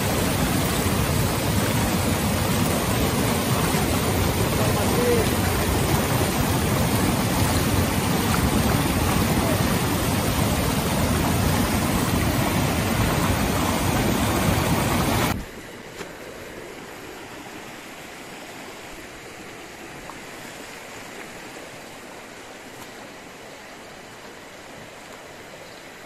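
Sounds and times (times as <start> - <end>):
fast stream rushing over rocks: 0.0 - 26.0
shallow stream flowing: 0.0 - 26.0.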